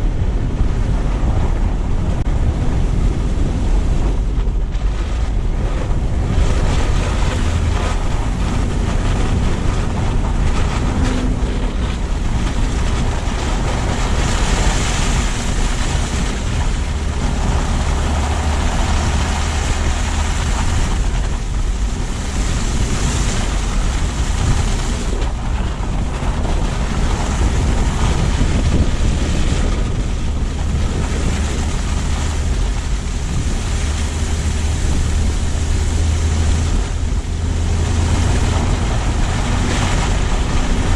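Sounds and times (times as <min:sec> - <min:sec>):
tyre and road noise: 0:00.0 - 0:40.9
wind buffeting microphone: 0:00.0 - 0:40.9.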